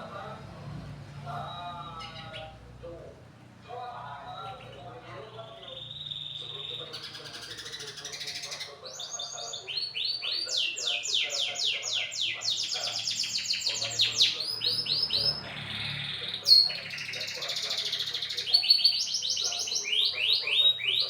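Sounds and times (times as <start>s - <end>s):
canary singing trills: 1.3s - 2.9s, 3.6s - 21.0s.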